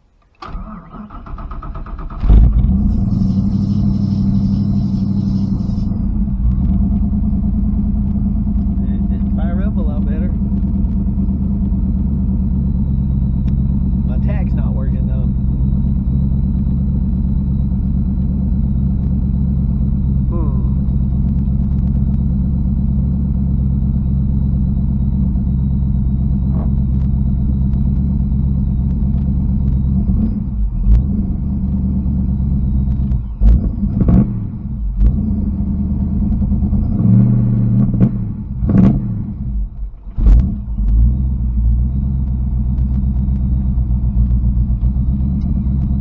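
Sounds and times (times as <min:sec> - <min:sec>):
car engine idling with throttle blips: 0:00.0 - 0:46.0.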